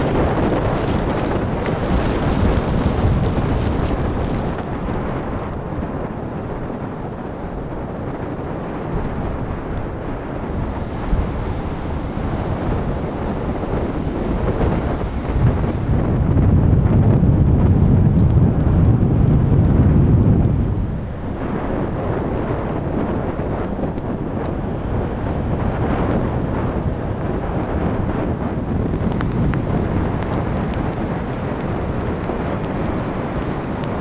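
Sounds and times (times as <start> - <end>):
heavy surf: 0.0 - 17.0, 18.8 - 34.0
wind buffeting microphone: 0.0 - 34.0.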